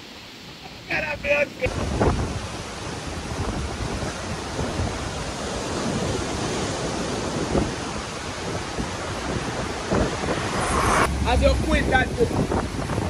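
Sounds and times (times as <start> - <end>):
strong stormy wind rushing: 0.8 - 13.0
wind buffeting microphone: 1.6 - 13.0.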